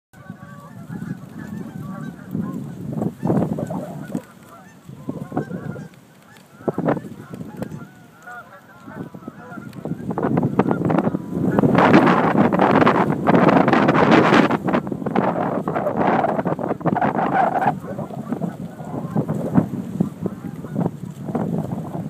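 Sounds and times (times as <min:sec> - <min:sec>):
geese honking: 0:00.2 - 0:22.0
wind buffeting microphone: 0:00.2 - 0:22.0.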